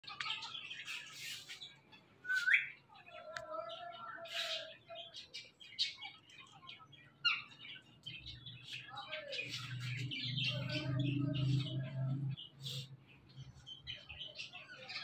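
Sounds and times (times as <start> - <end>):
parakeets chirping and squawking: 0.0 - 15.0.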